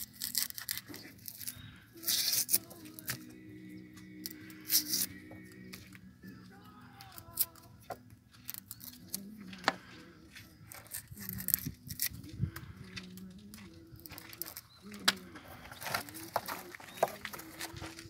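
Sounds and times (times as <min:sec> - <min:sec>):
dry fish snipping and crackling: 0:00.0 - 0:03.4, 0:04.0 - 0:06.0, 0:07.0 - 0:18.0.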